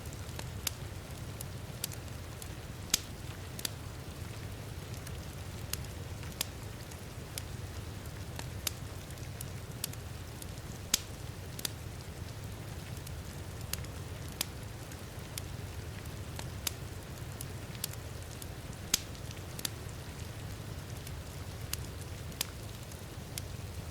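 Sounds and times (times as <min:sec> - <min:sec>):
steady rain hissing: 0:00.0 - 0:23.9
wood fire crackling and popping: 0:00.0 - 0:23.9.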